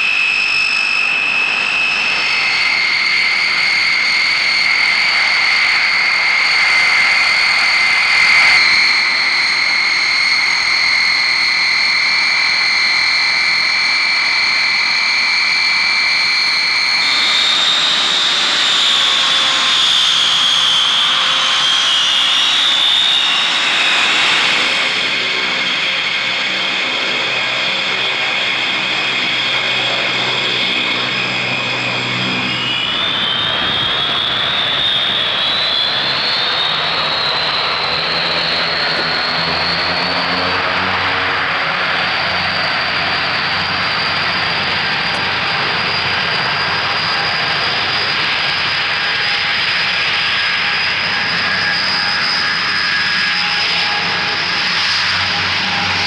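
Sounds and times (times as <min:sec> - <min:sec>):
propeller noise: 0:00.0 - 0:56.0
turboprop engines whining: 0:00.0 - 0:56.0.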